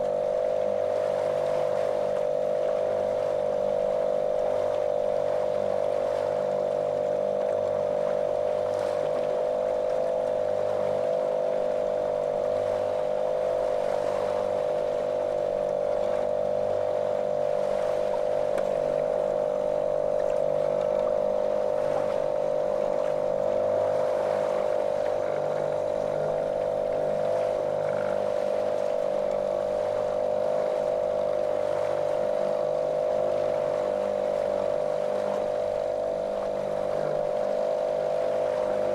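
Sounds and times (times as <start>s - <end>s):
motorboat motor droning: 0.0s - 38.9s.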